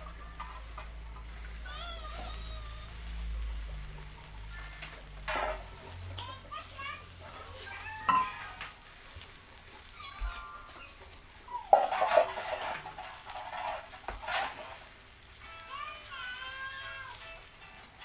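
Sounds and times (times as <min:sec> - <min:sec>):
skewers sizzling on charcoal grill: 0:00.0 - 0:18.0.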